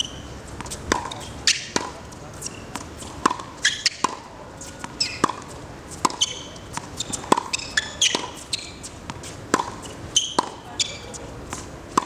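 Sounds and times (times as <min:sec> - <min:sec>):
ball bouncing on hard court: 0:00.0 - 0:02.0, 0:02.7 - 0:12.0
tennis ball struck by rackets: 0:00.0 - 0:12.0.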